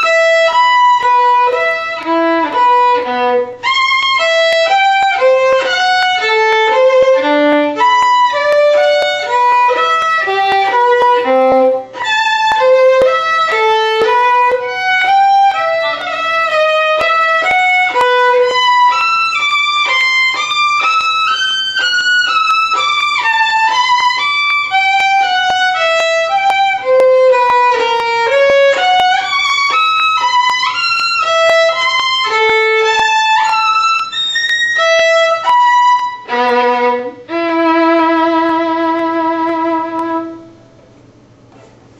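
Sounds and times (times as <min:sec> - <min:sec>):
violin playing fast notes: 0:00.0 - 0:40.4.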